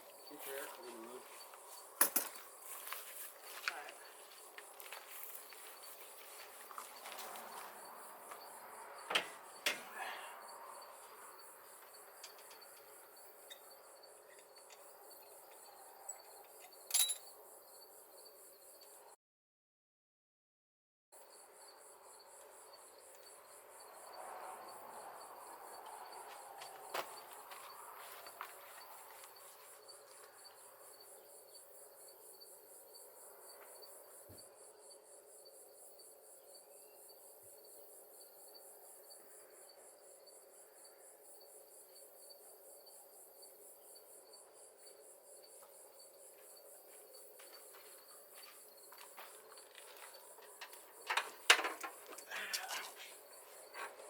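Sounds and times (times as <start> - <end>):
crickets chirping: 0.0 - 19.2, 21.2 - 54.0.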